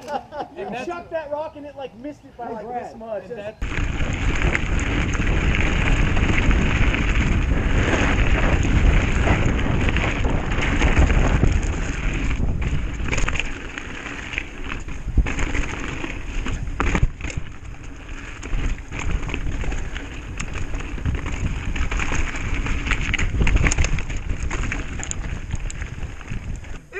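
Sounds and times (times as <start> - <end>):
tyres crackling over dry leaves: 3.0 - 26.9
bike rattling over bumps: 3.6 - 26.9
wind buffeting microphone: 3.6 - 26.9.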